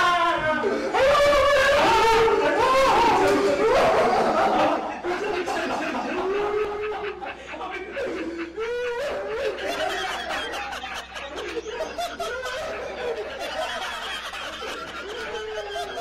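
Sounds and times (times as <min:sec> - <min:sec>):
man laughing hard: 0:00.2 - 0:16.0.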